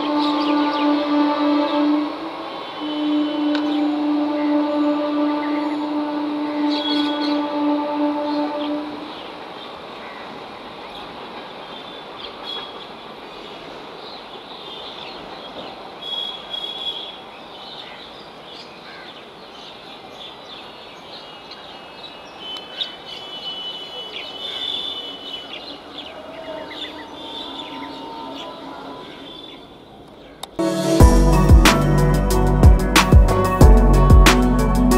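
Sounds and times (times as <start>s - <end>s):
distant trains rumbling: 0.0s - 18.5s, 22.3s - 34.9s
birds chirping: 0.0s - 30.6s.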